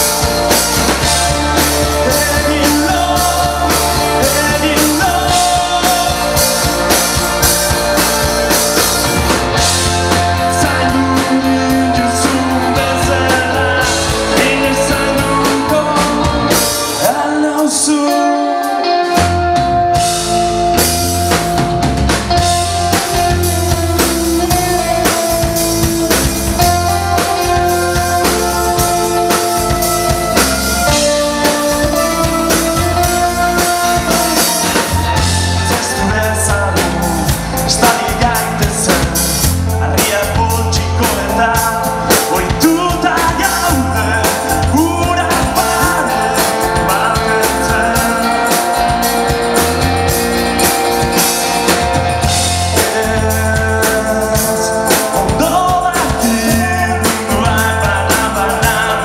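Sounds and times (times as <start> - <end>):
bass guitar: 0.0 - 59.0
drum kit: 0.0 - 59.0
electric guitars: 0.0 - 59.0
keyboard: 0.0 - 59.0.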